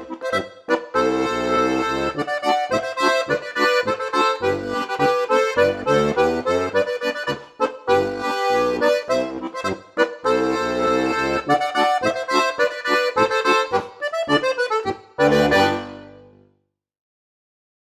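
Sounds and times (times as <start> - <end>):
button accordion playing a march: 0.0 - 16.4.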